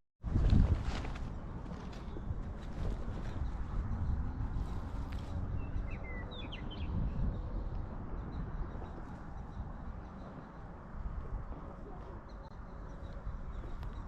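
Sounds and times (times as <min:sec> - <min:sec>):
wind rumbling on microphone: 0:00.2 - 0:14.0.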